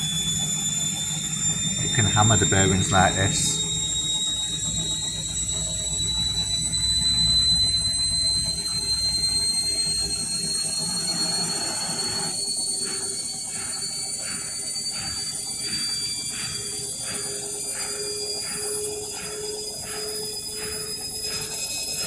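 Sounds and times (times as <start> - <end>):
washing machine motor whine: 0.0 - 22.0.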